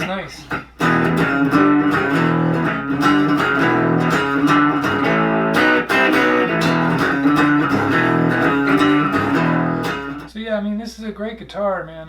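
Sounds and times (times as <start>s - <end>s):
amplified electric guitar riffs: 0.0s - 10.3s.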